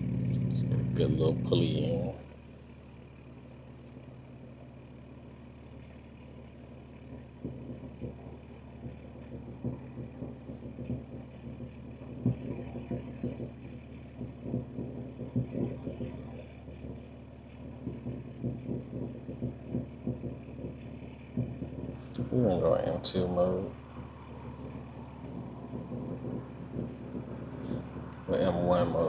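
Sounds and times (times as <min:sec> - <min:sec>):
car engine running at low revs: 0:00.0 - 0:29.0
exhaust thumps and crackles: 0:00.0 - 0:29.0.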